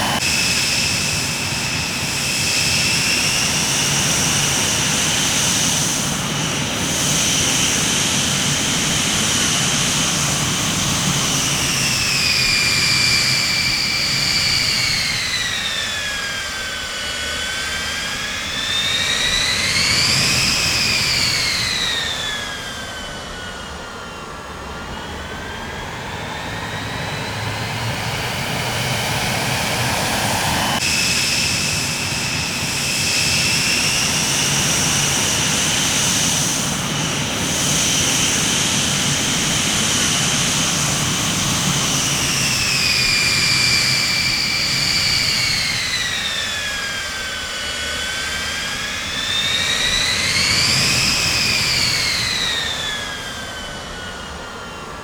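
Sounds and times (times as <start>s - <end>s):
high engine whine: 0.0s - 55.0s
jet engines running: 0.0s - 55.0s.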